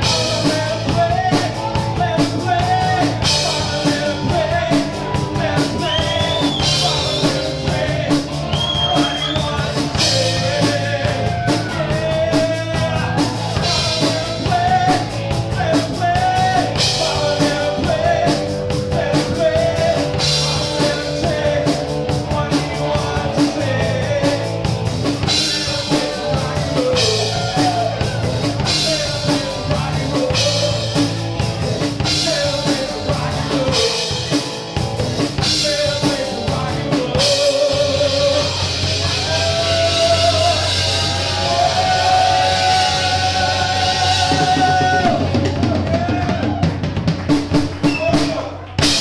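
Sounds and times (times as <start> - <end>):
person singing: 0.0 - 46.7
rock band playing loudly: 0.0 - 49.0.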